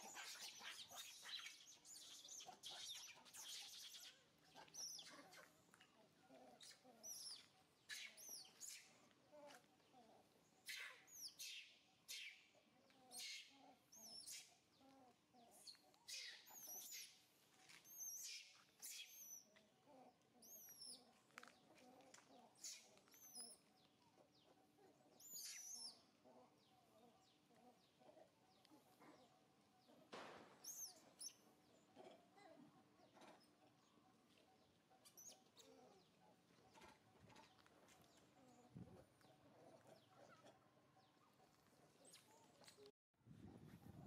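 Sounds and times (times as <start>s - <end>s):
faint bird chirps: 0.0s - 19.6s, 22.3s - 42.9s.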